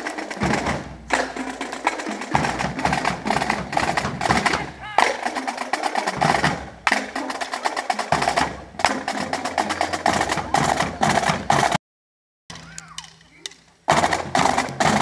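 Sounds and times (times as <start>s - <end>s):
marching drumline cadence: 0.0s - 11.8s, 12.5s - 15.0s.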